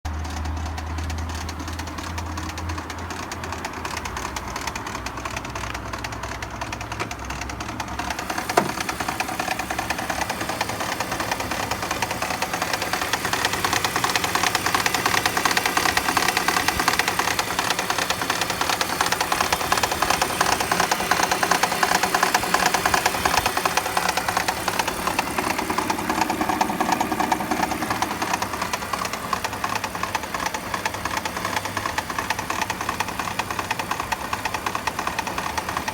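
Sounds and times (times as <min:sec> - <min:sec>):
car engine idling: 0:00.1 - 0:35.9
rapid engine knocking: 0:00.1 - 0:35.9.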